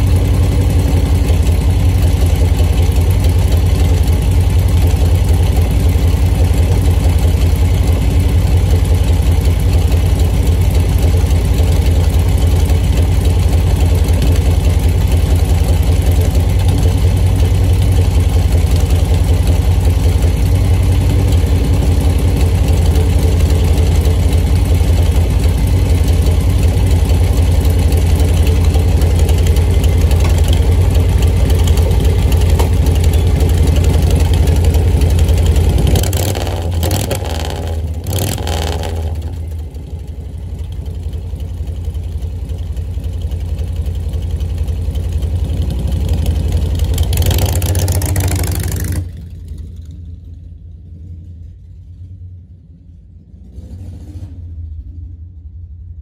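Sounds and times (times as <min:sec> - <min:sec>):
motorcycle engine idling: 0:00.0 - 0:53.3.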